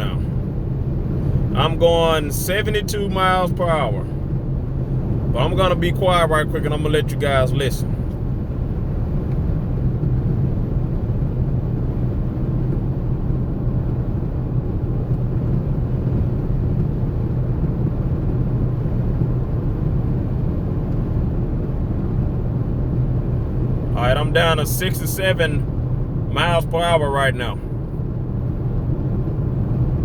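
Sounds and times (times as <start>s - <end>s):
road and tyre noise: 0.0s - 30.0s.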